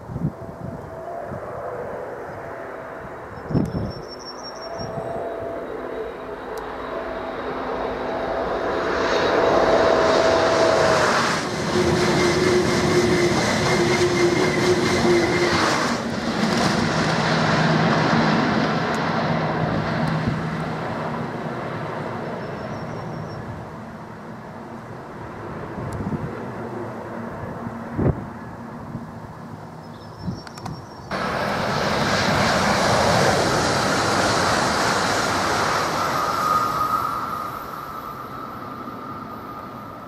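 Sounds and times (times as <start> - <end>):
high-speed train passing: 0.0 - 40.0.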